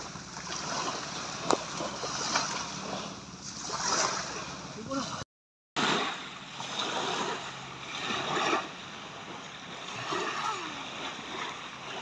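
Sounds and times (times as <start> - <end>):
small waves washing on shore: 0.0 - 5.2, 5.8 - 12.0.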